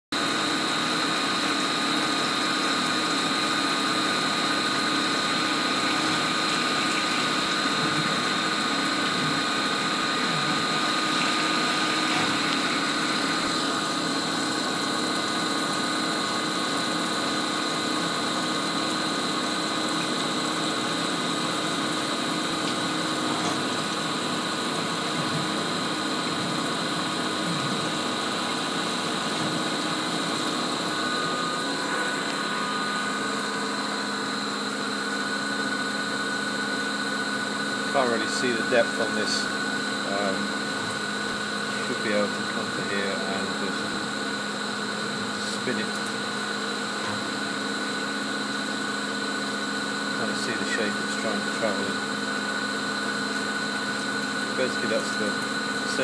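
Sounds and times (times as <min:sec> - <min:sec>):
milling machine cutting: 0:00.2 - 0:48.0
coolant spraying hiss: 0:00.2 - 0:56.0.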